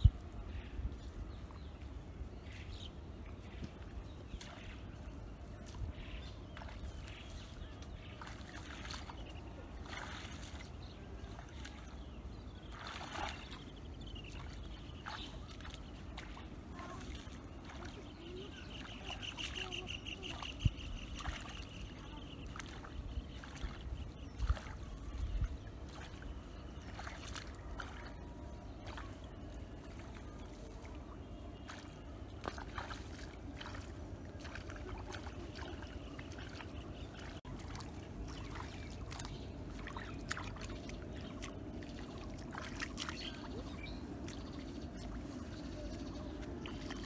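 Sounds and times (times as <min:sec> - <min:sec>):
muddy water trickling and splashing: 0:00.0 - 0:47.0
steady outdoor hiss: 0:00.0 - 0:47.0.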